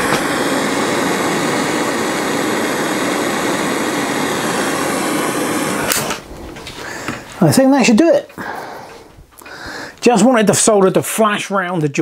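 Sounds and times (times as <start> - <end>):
blowtorch hissing: 0.0 - 9.9.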